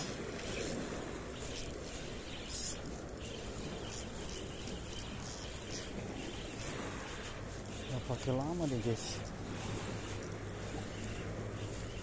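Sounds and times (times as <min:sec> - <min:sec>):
fishing reel gears whirring: 0:00.0 - 0:12.0
outdoor background noise: 0:00.0 - 0:12.0.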